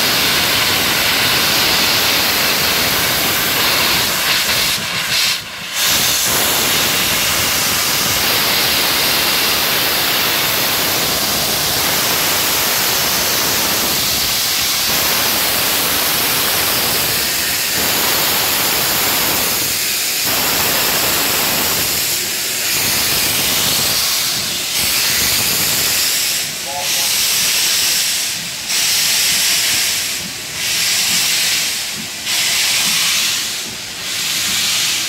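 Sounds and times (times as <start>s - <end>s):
hiss of escaping steam: 0.0s - 35.0s.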